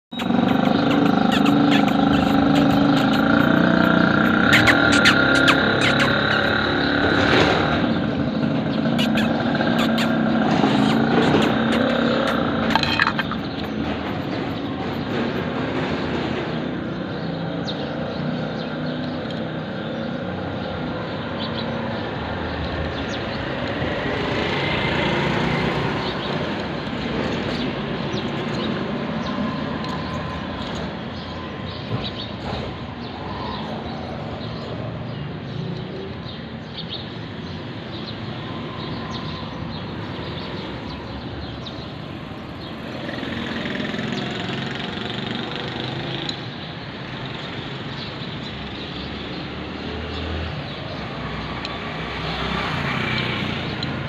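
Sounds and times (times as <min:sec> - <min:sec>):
street traffic: 0:00.0 - 0:54.0
vehicles passing: 0:00.1 - 0:54.0.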